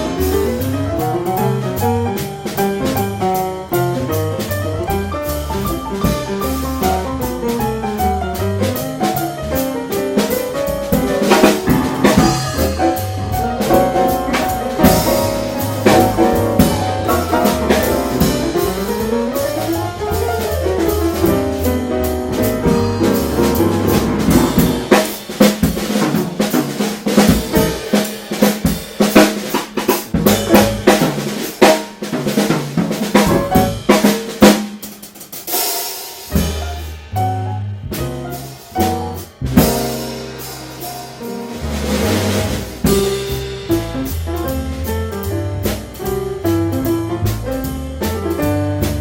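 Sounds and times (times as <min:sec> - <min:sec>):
jazz piano trio playing: 0:00.0 - 0:49.0.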